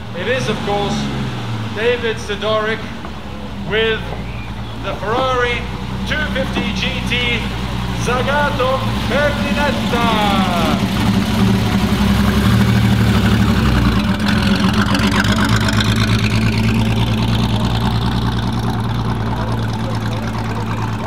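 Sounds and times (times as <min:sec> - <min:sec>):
car engine at low revs: 0:00.0 - 0:21.0.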